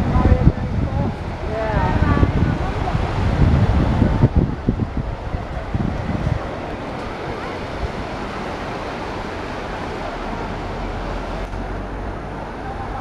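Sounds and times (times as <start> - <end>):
waves washing onto beach: 0.0 - 13.0
wind buffeting microphone: 0.0 - 13.0.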